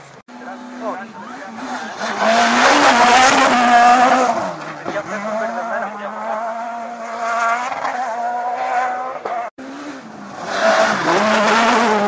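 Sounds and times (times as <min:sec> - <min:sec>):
gravel and tyre noise: 0:00.0 - 0:12.0
rally car engine at high revs: 0:00.0 - 0:12.0.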